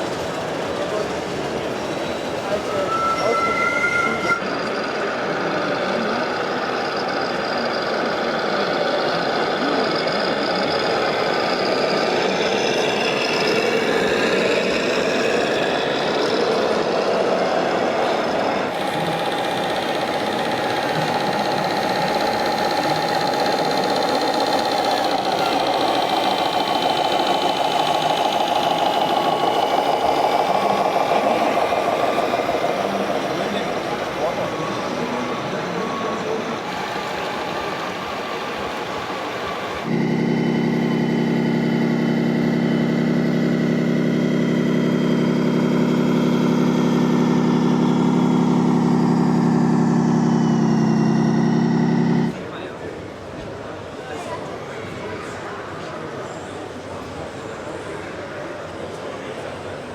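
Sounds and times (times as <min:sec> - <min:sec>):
model truck engine noise: 0:00.0 - 0:59.9.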